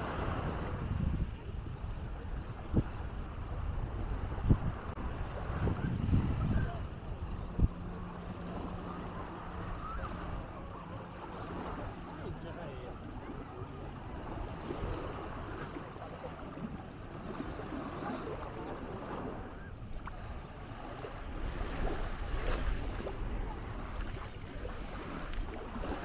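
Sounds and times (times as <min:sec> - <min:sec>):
small waves washing on sand: 0:00.0 - 0:26.0
wind buffeting microphone: 0:00.0 - 0:26.0.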